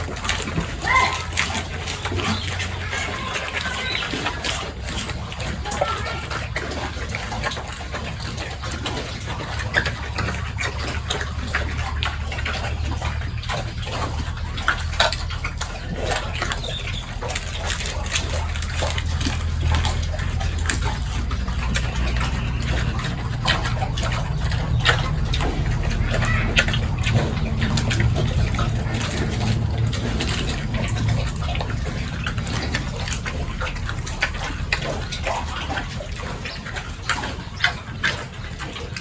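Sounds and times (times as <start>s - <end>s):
pigs slurping and chomping: 0.0s - 39.0s
steady low hum: 1.6s - 39.0s.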